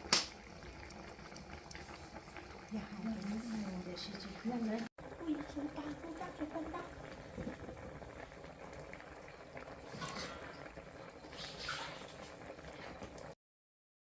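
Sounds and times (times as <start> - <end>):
liquid bubbling in a pot: 0.0 - 13.4.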